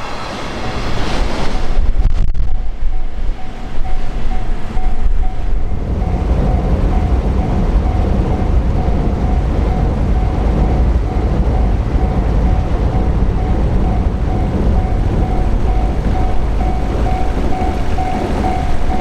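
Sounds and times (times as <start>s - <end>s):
freight train rumbling: 0.0s - 19.0s
crossing warning bell dinging: 0.5s - 19.0s.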